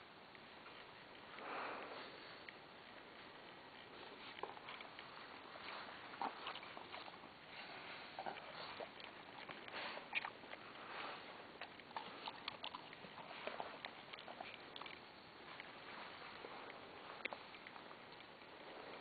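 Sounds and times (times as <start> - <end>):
small ticks and rustles: 0.0 - 19.0
dog sniffing through grass: 3.8 - 19.0.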